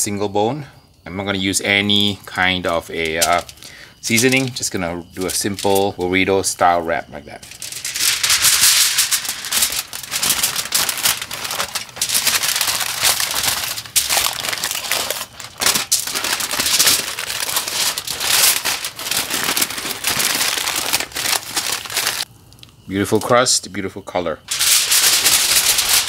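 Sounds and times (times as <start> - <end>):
aluminium foil crinkling: 1.9 - 6.6, 7.3 - 22.3, 24.5 - 26.0.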